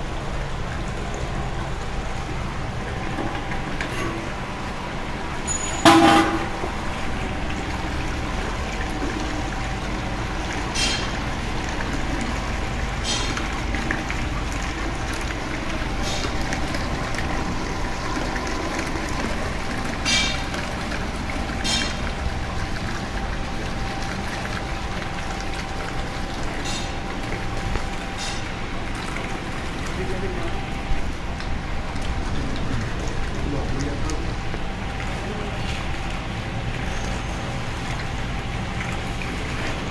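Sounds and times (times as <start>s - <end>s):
liquid swirling: 0.0s - 39.9s.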